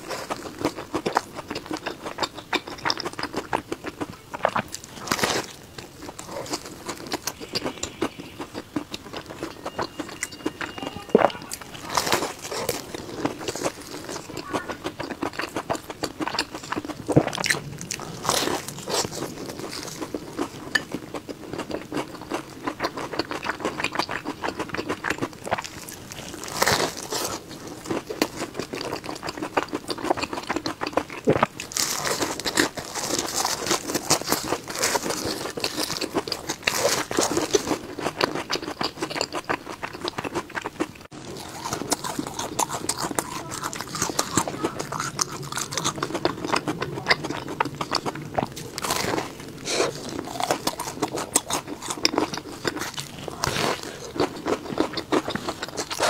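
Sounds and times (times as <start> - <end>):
crunching crisp pastry: 0.0 - 56.0.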